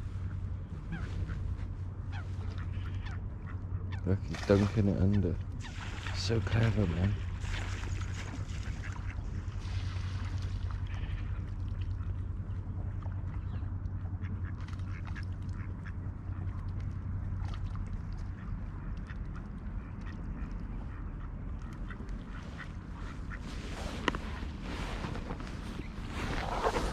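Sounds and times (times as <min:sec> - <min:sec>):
steady low hum: 0:00.0 - 0:26.9
ducks quacking: 0:00.7 - 0:26.9.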